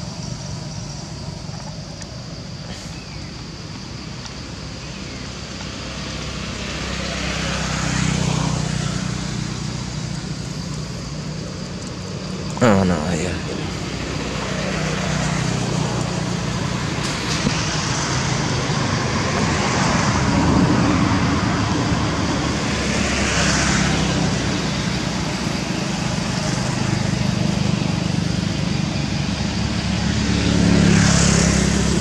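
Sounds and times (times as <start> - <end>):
traffic noise: 0.0 - 32.0.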